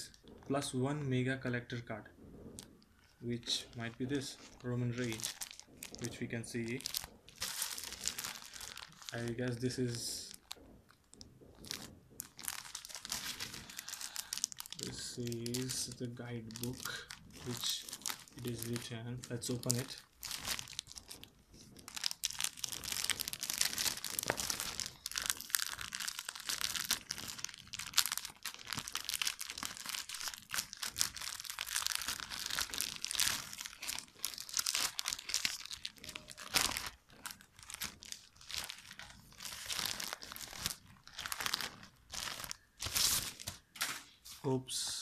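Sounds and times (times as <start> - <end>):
packaging crinkling and crackling: 0.0 - 44.2.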